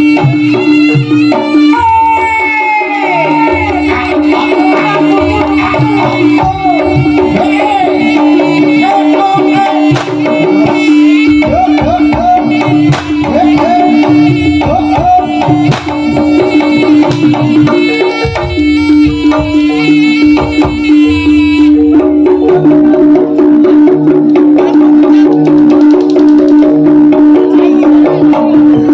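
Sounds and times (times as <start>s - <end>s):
wavering melody line: 0.0s - 24.2s
hand drums beating fast rhythm: 0.0s - 28.9s.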